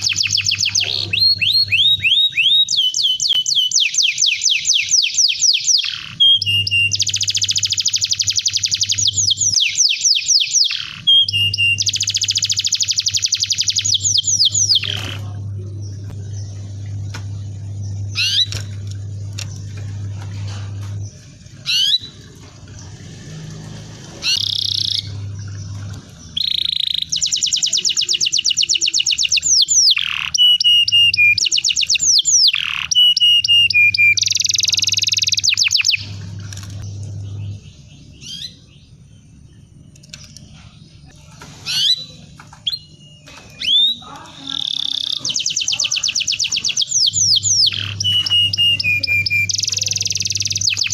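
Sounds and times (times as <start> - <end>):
canary singing: 0.0 - 50.9
low steady hum: 0.0 - 50.9.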